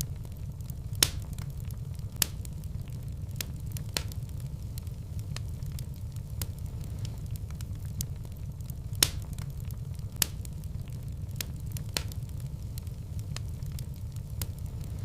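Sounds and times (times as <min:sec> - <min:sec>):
low rumble of fire: 0:00.0 - 0:15.0
sharp pops of fire: 0:00.0 - 0:15.0
wood fire crackling: 0:00.0 - 0:15.0.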